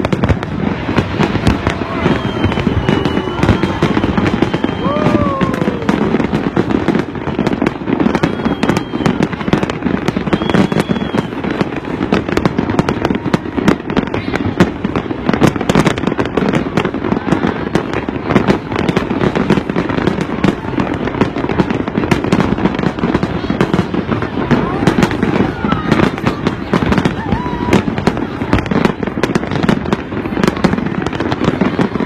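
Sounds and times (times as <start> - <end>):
crowd voices: 0.0 - 32.0
fireworks bangs and crackles: 0.0 - 32.0.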